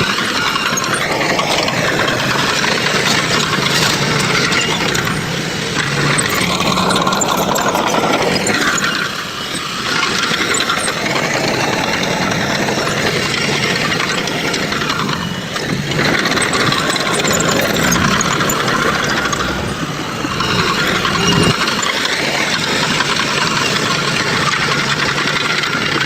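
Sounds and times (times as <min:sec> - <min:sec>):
heavy machinery engine running: 0:00.0 - 0:26.0.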